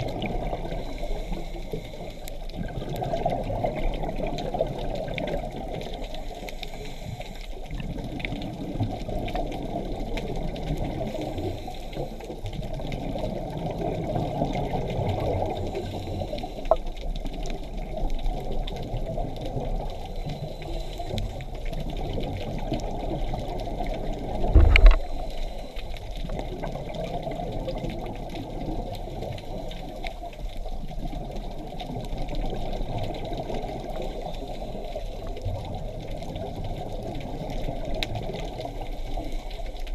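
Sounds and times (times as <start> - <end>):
scuba regulator bubbles gurgling: 0.0 - 39.9.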